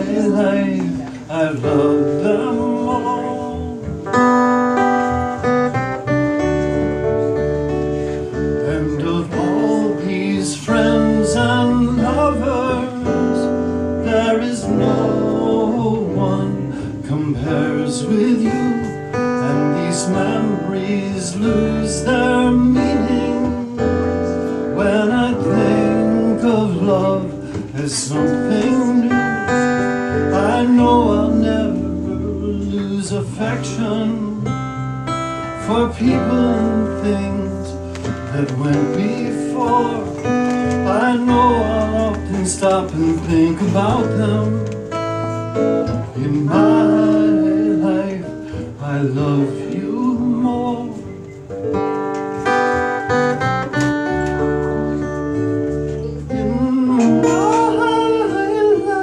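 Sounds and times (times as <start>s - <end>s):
person singing: 0.0s - 4.2s, 8.3s - 34.6s, 35.6s - 44.9s, 45.8s - 51.2s, 55.7s - 59.0s
strummed acoustic guitars: 0.0s - 59.0s.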